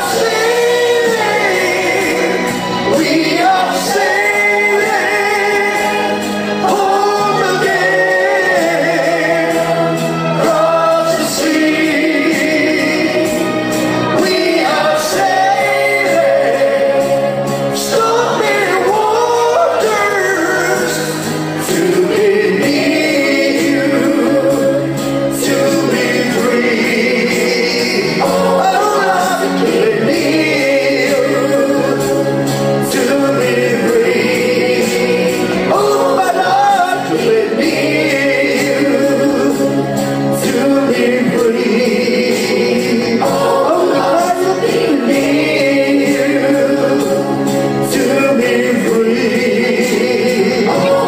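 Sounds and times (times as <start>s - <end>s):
karaoke backing track: 0.0s - 51.0s
man singing into a microphone: 0.0s - 51.0s.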